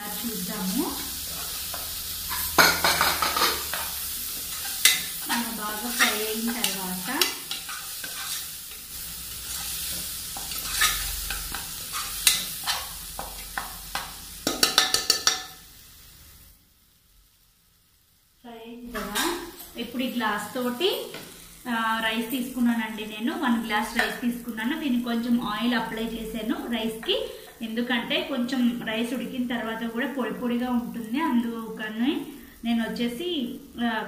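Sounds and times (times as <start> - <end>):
masala sizzling in hot oil: 0.0 - 34.0.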